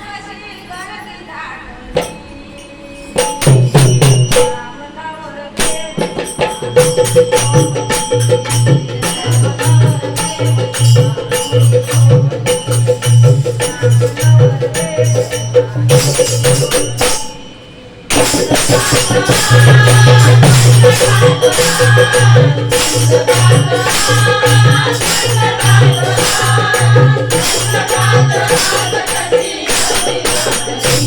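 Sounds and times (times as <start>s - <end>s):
jingling hand percussion: 0.0s - 31.0s
drum beat: 3.2s - 4.6s, 5.6s - 17.4s, 18.1s - 31.0s
held tone: 5.8s - 31.0s.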